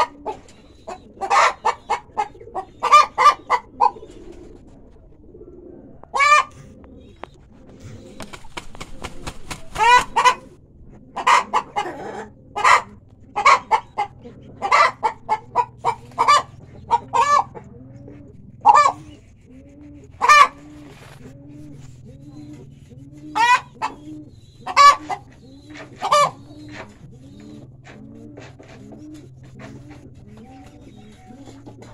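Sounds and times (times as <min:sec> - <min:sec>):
chickens clucking high calls: 0:00.0 - 0:31.9.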